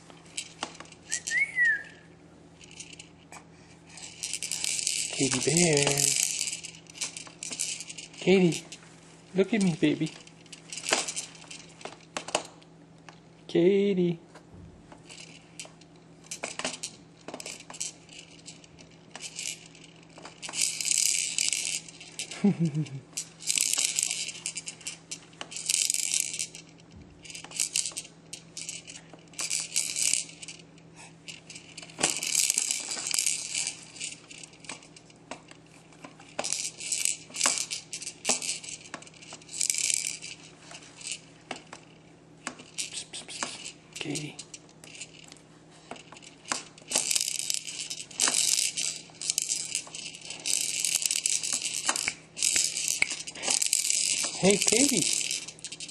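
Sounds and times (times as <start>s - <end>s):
plastic rattle toy rattling: 0.0s - 2.0s, 2.6s - 12.6s, 15.0s - 55.9s.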